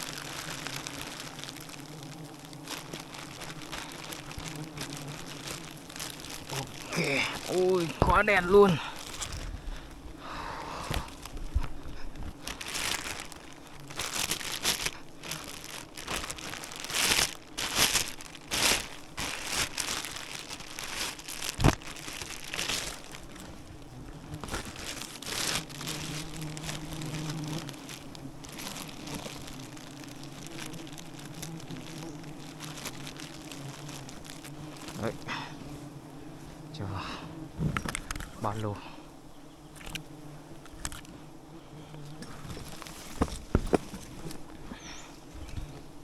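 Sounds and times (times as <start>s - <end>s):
crinkling and rustling: 0.0s - 10.2s, 10.8s - 36.6s, 37.6s - 38.7s, 39.7s - 41.2s, 41.9s - 46.0s
bees buzzing: 0.0s - 46.0s.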